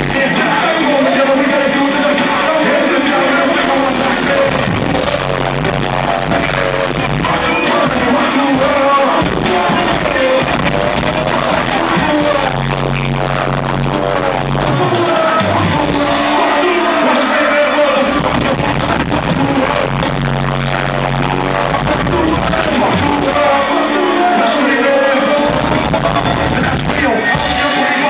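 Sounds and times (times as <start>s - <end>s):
deep bass line: 0.0s - 27.7s
loud rap-rock concert music: 0.0s - 28.0s.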